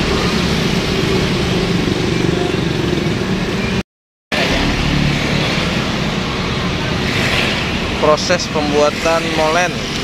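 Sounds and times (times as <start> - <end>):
roadside traffic noise: 0.0 - 10.0.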